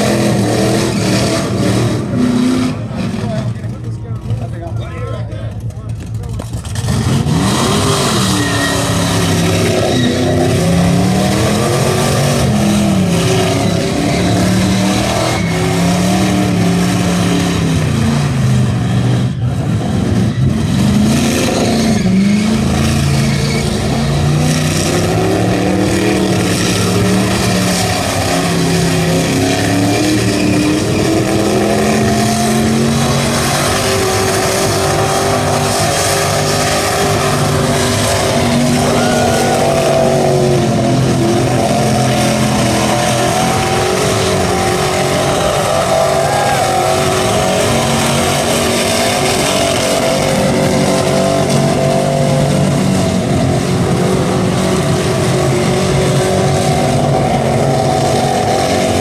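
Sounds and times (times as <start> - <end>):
car engine revving: 0.0 - 59.0
tyres skidding: 0.0 - 59.0.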